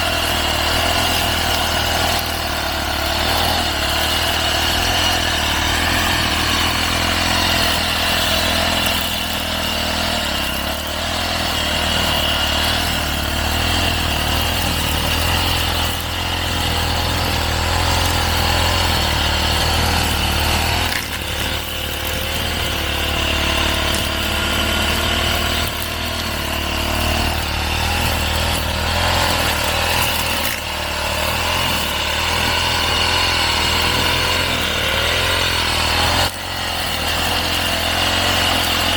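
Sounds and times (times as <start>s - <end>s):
brush cutter cutting grass: 0.0s - 38.9s.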